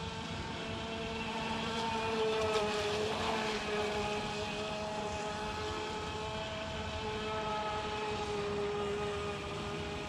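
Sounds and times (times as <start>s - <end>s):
rc boat electric motor whining: 0.0s - 10.0s.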